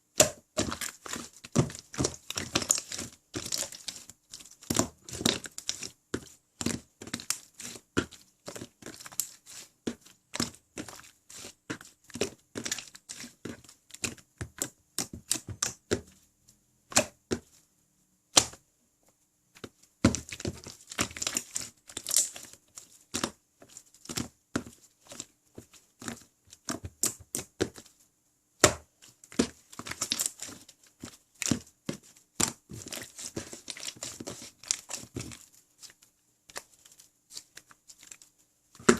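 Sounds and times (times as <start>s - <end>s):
slime squishing and crackling: 0.2s - 16.1s, 19.6s - 27.9s, 28.6s - 38.9s.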